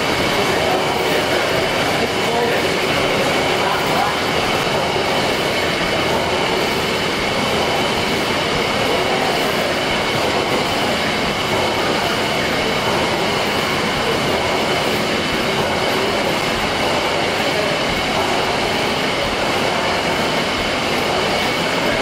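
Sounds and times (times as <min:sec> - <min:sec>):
steam engine running: 0:00.0 - 0:22.0.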